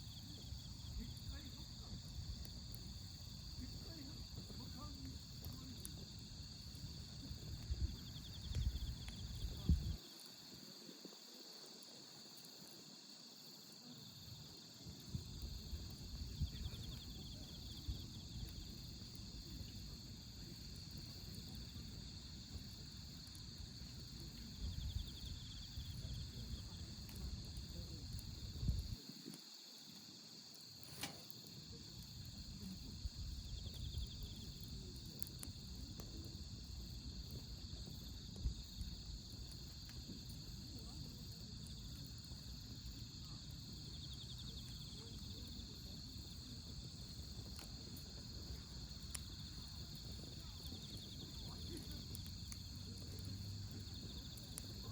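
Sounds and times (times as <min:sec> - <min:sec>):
crickets chirping: 0:00.0 - 0:54.9
wood fire crackling: 0:00.0 - 0:54.9.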